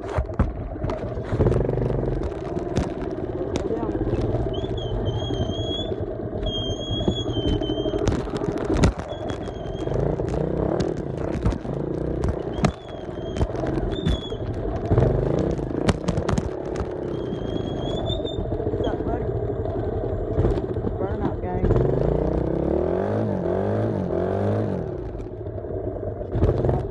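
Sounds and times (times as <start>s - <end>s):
off-road vehicle engine revving: 1.0s - 26.9s.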